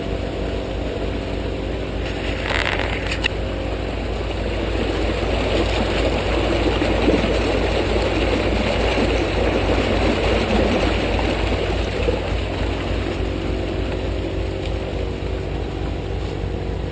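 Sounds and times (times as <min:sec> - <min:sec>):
vehicle engine idling: 0:00.0 - 0:16.9
rough rushing noise: 0:02.0 - 0:16.9.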